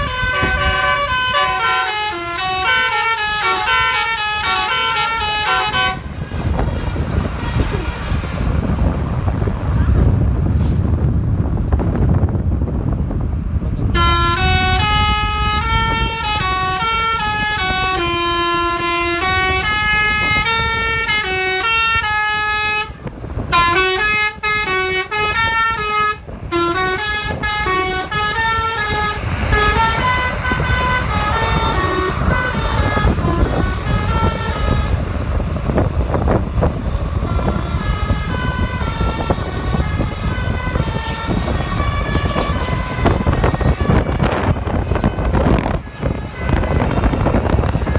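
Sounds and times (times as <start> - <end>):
air horns playing melody: 0.0 - 8.4, 13.9 - 47.9
vehicle rumble: 0.0 - 47.9.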